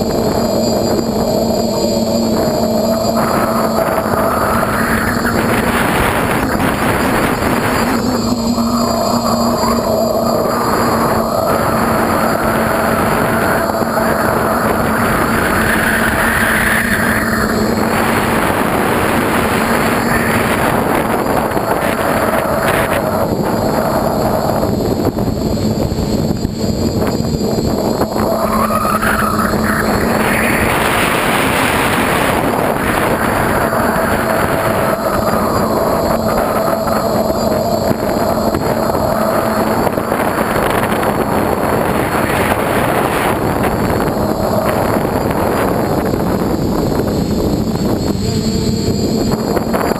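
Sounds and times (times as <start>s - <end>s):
drone propellers whirring: 0.0s - 49.9s
quadcopter motors whining: 0.0s - 49.9s
wind rushing: 0.0s - 49.9s.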